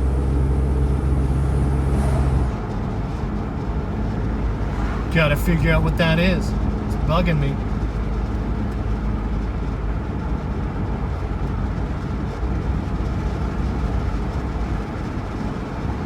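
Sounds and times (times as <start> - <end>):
car engine noise: 0.0 - 16.0
road noise: 0.0 - 16.0.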